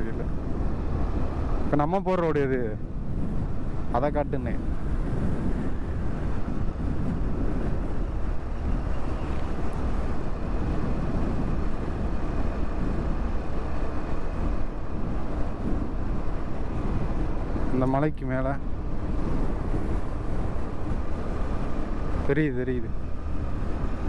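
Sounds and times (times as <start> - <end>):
road noise: 0.0 - 24.0
wind on microphone: 0.0 - 24.0.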